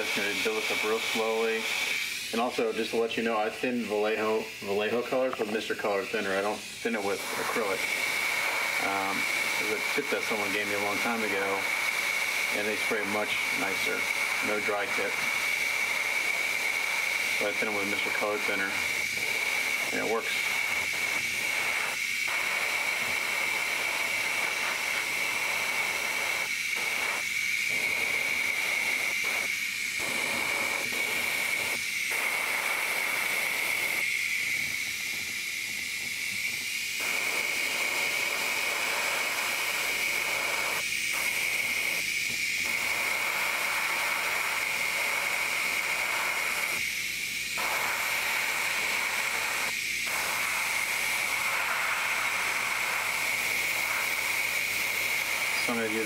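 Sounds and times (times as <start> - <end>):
airbrush hissing with high whistle: 0.0 - 56.0.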